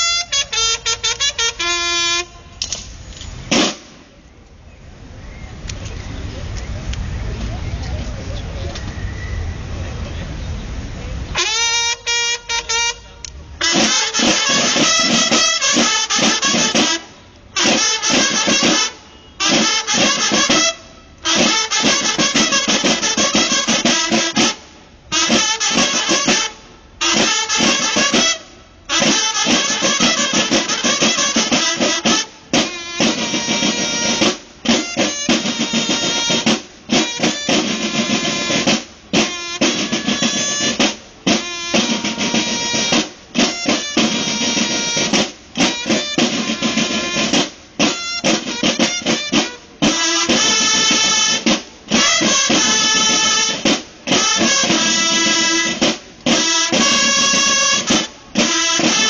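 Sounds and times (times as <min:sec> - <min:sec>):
snare drums marching cadence: 0:00.0 - 0:04.2, 0:11.4 - 0:59.0
bugles holding notes: 0:00.0 - 0:59.0.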